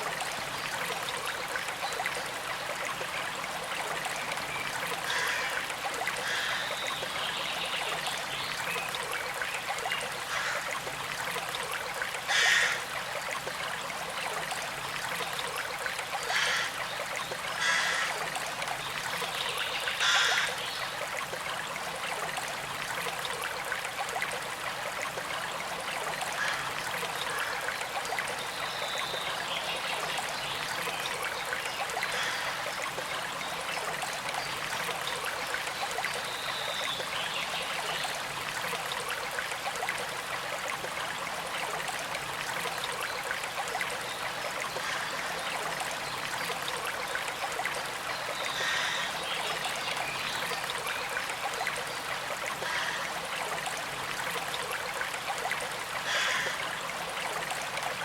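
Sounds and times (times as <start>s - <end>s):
creek trickling: 0.0s - 58.0s
water gurgles and splashes: 0.0s - 58.0s.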